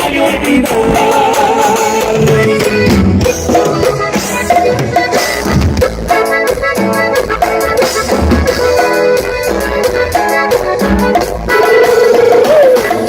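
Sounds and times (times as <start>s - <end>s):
accordion: 0.0s - 13.0s
steady drum beat: 0.0s - 13.0s.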